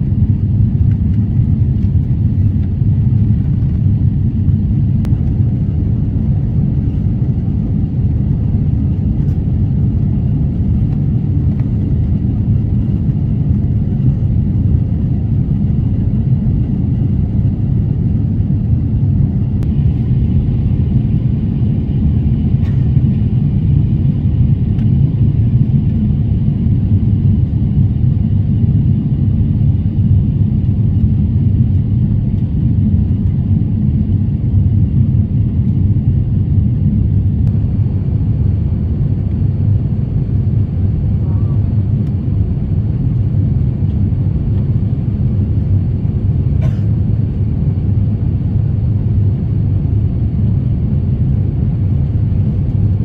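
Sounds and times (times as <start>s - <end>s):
airplane cabin roar in flight: 0.0s - 53.0s.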